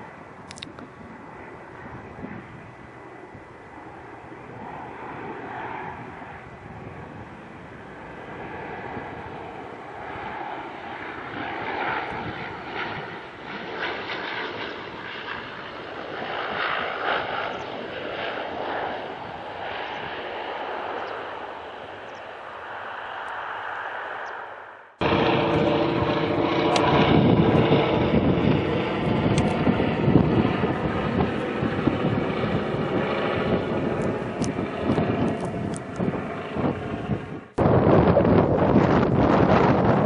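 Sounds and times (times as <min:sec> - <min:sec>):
propeller plane engine drone: 0:00.0 - 0:40.0.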